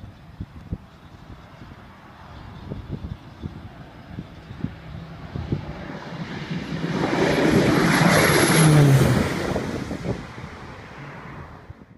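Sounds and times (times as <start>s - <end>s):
turboprop aircraft passing overhead: 0.0s - 11.9s.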